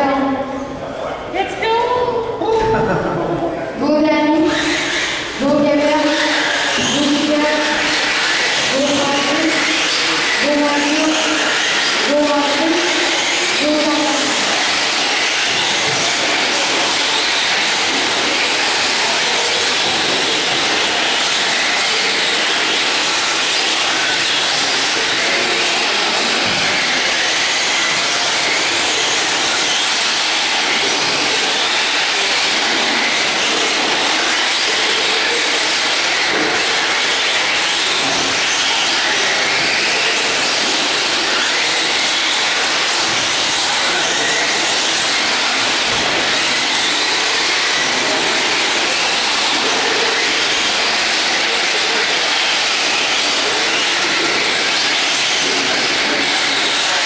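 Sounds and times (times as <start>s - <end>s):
racing cars running: 2.6s - 57.0s
rc truck motors whining: 3.8s - 57.0s.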